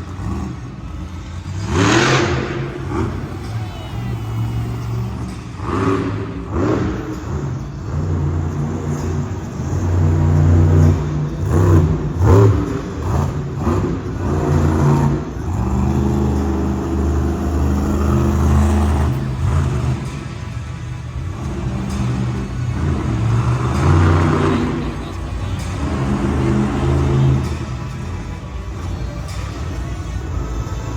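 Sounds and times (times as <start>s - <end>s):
truck engine revving hard: 0.0s - 30.9s.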